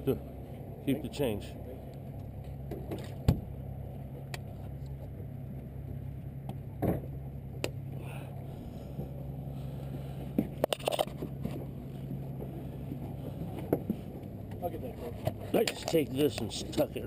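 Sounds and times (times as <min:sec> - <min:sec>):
boat motor hum: 0:00.0 - 0:17.0.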